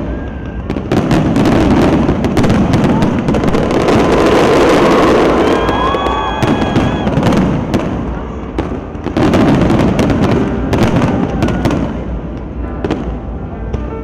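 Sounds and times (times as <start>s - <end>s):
fireworks bangs and crackles: 0.0s - 14.0s
rumble of fireworks bursts: 0.0s - 14.0s.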